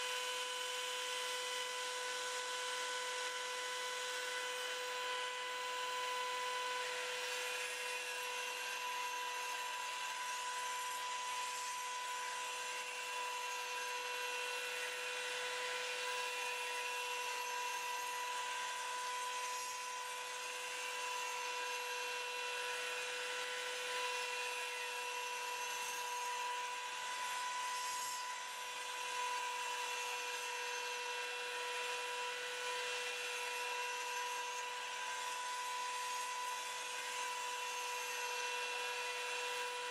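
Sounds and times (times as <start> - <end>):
blade grinding on sanding belt: 0.0 - 39.9.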